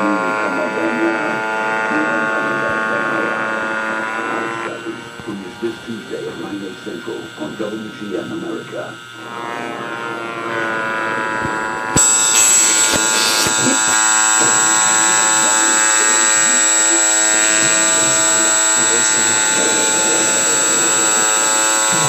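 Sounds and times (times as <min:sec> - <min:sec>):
router motor whine: 0:00.0 - 0:22.0.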